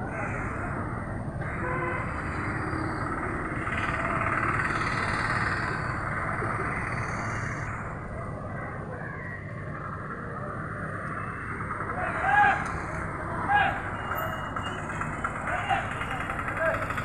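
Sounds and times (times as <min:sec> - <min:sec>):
indistinct voices: 0:00.0 - 0:17.0
traffic noise: 0:00.0 - 0:17.0.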